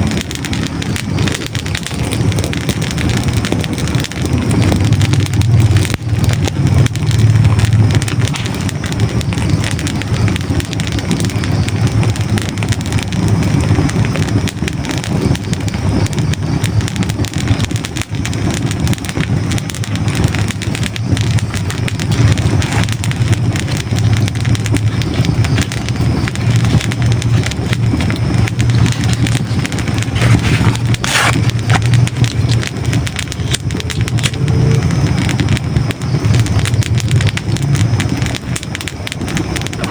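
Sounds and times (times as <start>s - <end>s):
fire crackling: 0.0s - 39.9s
loud pop of fire: 0.0s - 39.9s
low rumble of flame: 0.0s - 39.9s.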